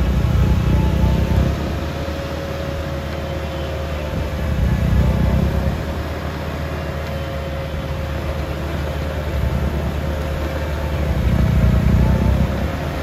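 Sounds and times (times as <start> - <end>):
snowblower churning snow: 0.0 - 13.0
tractor engine running: 0.0 - 13.0.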